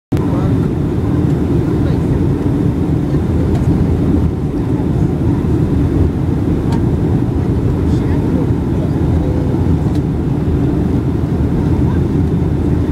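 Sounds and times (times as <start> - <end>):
airplane cabin rumble: 0.1 - 12.9.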